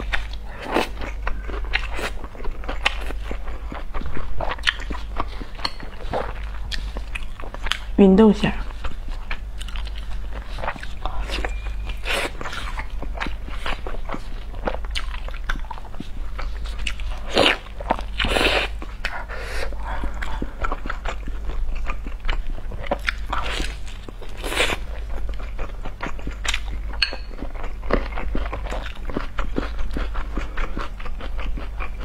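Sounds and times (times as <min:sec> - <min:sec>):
person chewing food: 0:00.0 - 0:08.0, 0:08.6 - 0:32.0.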